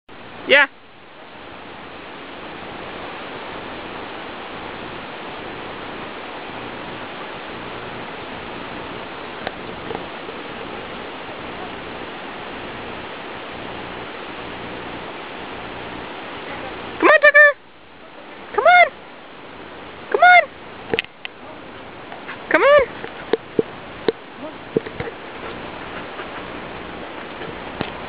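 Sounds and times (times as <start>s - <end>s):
steady rushing noise: 0.1s - 28.0s.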